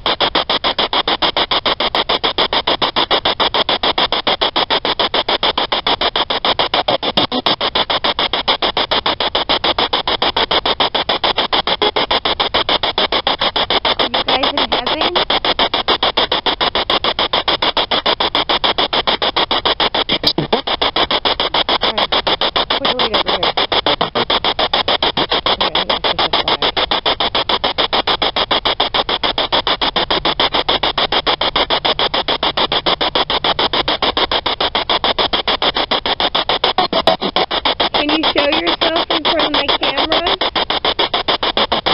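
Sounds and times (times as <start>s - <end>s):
faint broadcast snatches: 0.0s - 41.9s
radio static chopped rapidly: 0.0s - 41.9s.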